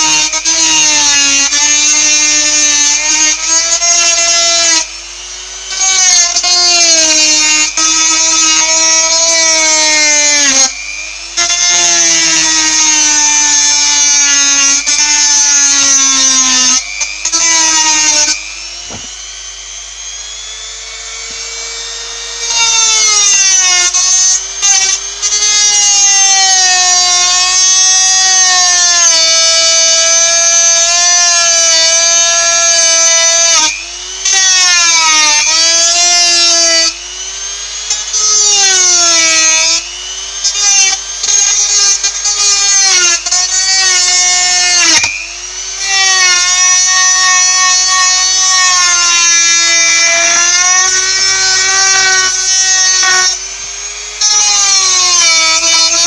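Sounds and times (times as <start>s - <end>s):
rotary tool cutting metal: 0.0s - 56.0s.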